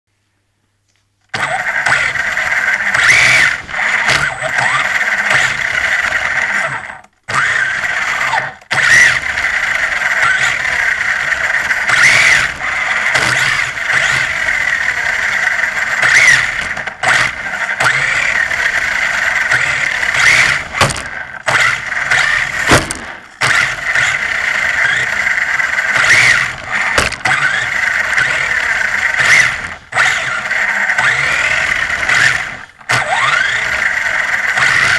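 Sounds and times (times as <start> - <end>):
toy car motor whine: 1.3 - 34.9.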